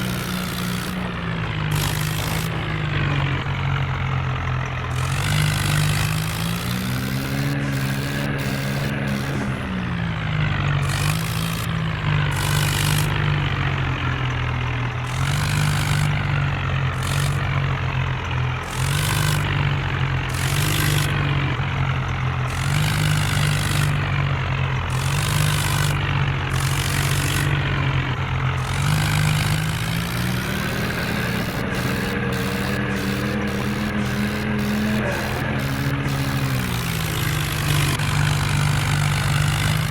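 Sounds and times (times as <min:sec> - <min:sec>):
tractor diesel engine running hard: 0:00.0 - 0:39.9.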